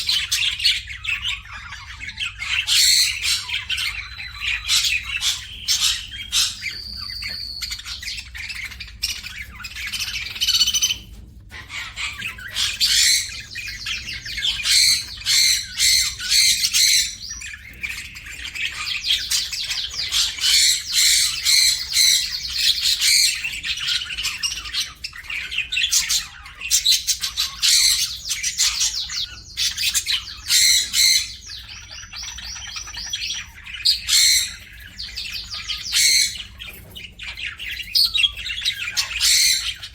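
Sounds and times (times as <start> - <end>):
small birds chirping and squawking: 0.0 - 39.9.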